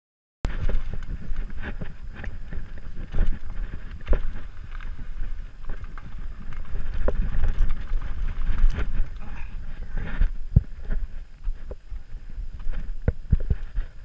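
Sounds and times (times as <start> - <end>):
bike clattering over roots: 0.5 - 14.0
bike tyres rumbling over dirt: 0.5 - 14.0
wind buffeting microphone: 0.5 - 14.0.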